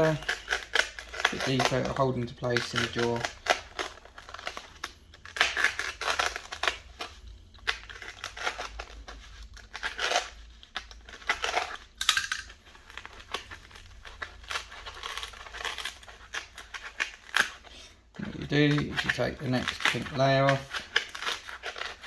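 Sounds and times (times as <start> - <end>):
foam ripping and crinkling: 0.0 - 12.0, 12.7 - 22.0.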